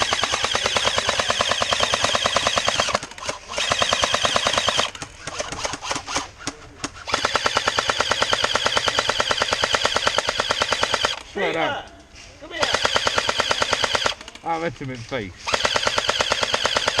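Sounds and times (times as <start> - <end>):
airsoft gun full-auto bursts: 0.0 - 6.3, 7.0 - 11.2, 12.6 - 14.3, 15.4 - 17.0.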